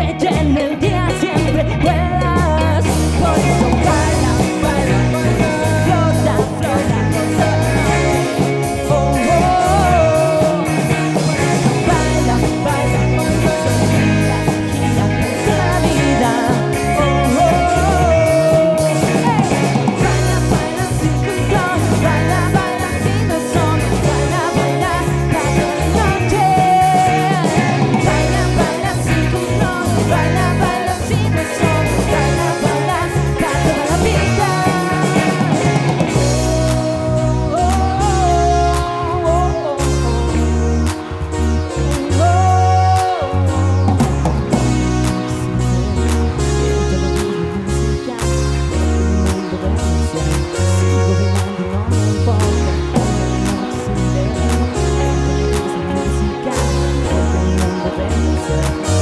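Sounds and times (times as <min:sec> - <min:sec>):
backing vocal: 0:00.0 - 0:59.0
bass guitar: 0:00.0 - 0:59.0
drums: 0:00.0 - 0:59.0
electric guitars: 0:00.0 - 0:59.0
keyboards: 0:00.0 - 0:59.0
male lead vocal singing: 0:00.0 - 0:59.0.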